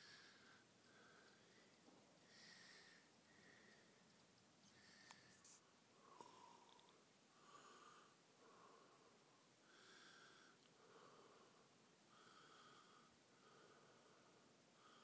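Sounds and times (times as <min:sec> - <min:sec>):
faint breathing: 0:00.0 - 0:15.0.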